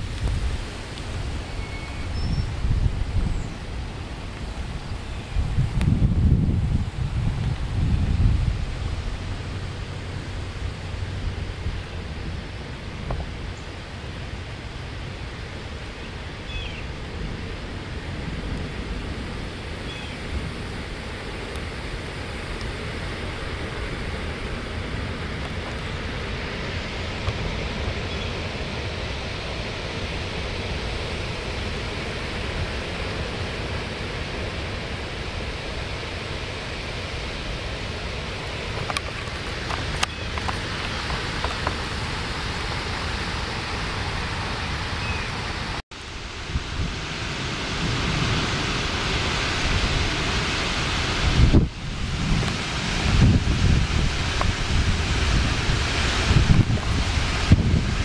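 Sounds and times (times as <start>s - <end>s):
wind rumble on microphone: 0.0s - 58.0s
wind rushing through leaves: 0.0s - 58.0s.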